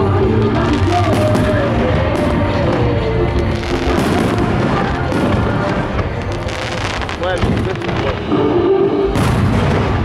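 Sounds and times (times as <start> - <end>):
fireworks bursting: 0.0 - 10.0
music playing: 0.0 - 10.0.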